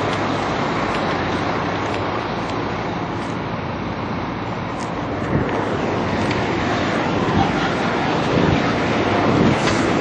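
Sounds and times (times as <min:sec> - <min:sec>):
low engine hum: 0:00.0 - 0:10.0
traffic wash: 0:00.0 - 0:10.0.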